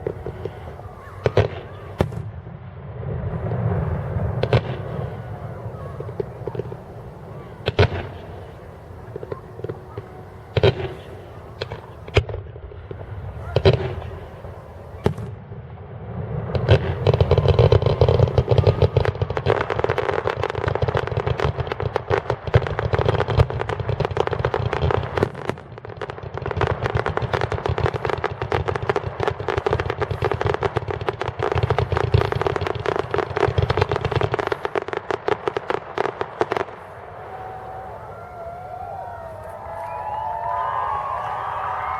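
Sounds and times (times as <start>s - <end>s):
fireworks crackling bangs: 0.0s - 41.9s.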